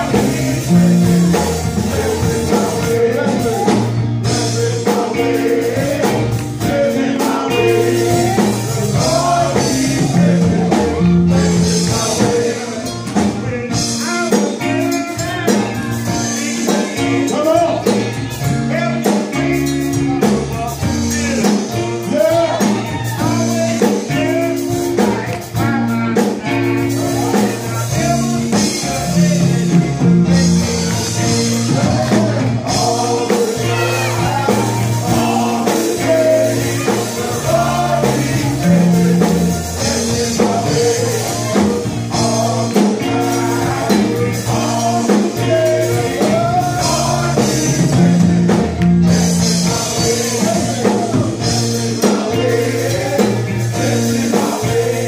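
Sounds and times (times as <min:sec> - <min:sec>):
bass line: 0:00.0 - 0:55.0
drums: 0:00.0 - 0:55.0
keyboard: 0:00.0 - 0:55.0
male gospel choir singing: 0:00.0 - 0:55.0.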